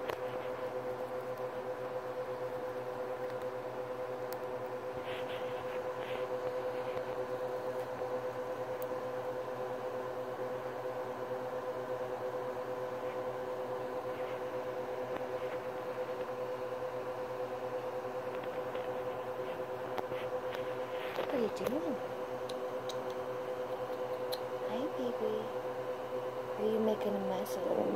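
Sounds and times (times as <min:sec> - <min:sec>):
steady mechanical hum: 0:00.0 - 0:27.9.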